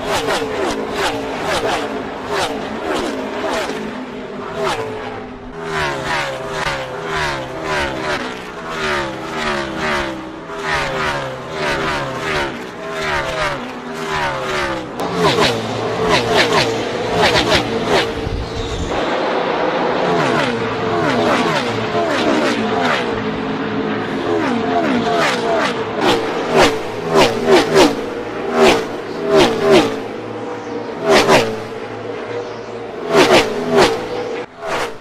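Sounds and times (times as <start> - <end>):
race cars passing at speed: 0.0 - 35.0.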